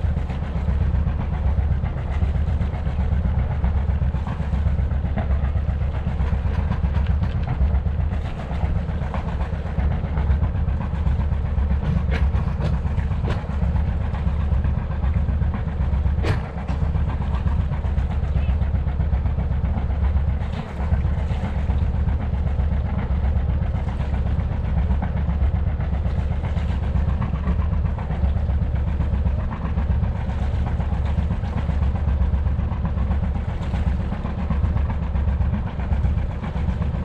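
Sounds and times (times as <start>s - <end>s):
boat diesel engine drone: 0.0s - 37.0s.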